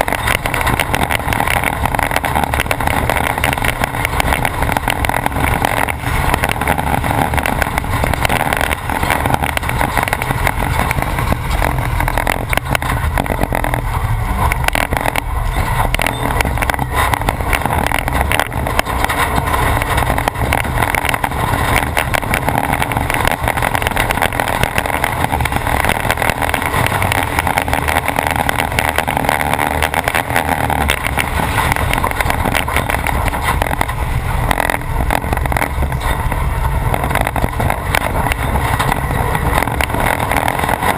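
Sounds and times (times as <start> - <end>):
knocking and rattling: 0.0 - 40.9
truck engine running: 0.0 - 40.9.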